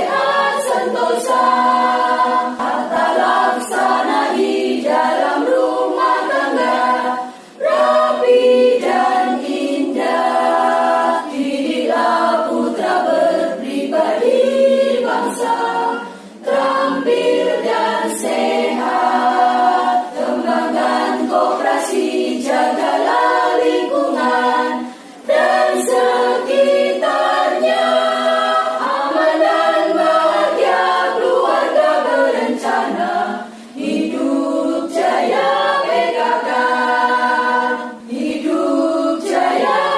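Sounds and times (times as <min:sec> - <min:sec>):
women's choir singing a march: 0:00.0 - 0:39.9.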